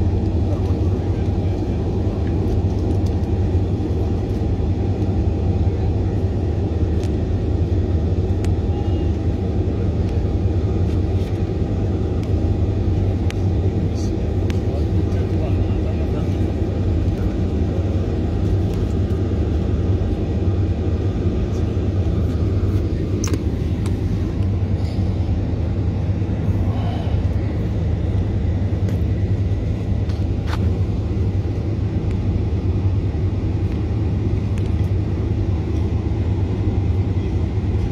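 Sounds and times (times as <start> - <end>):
jet cabin rumble: 0.0 - 37.9.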